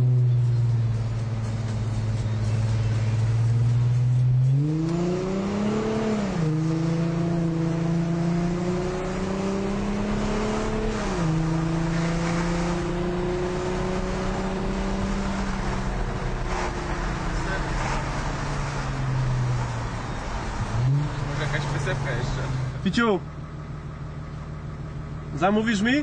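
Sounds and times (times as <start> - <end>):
diesel car engine accelerating: 0.0 - 26.0.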